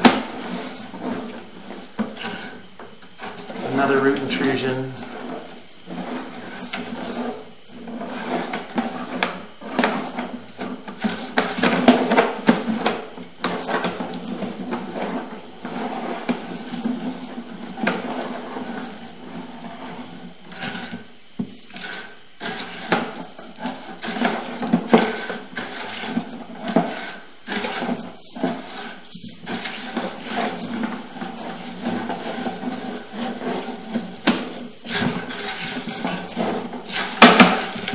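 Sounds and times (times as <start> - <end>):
cable scraping in pipe: 0.0 - 37.9
steady low hum: 0.0 - 37.9.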